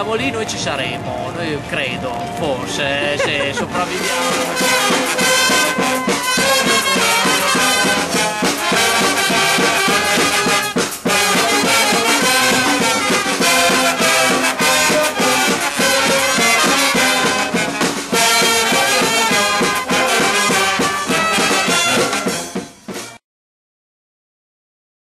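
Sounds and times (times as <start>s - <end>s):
brass band playing: 0.0s - 23.2s.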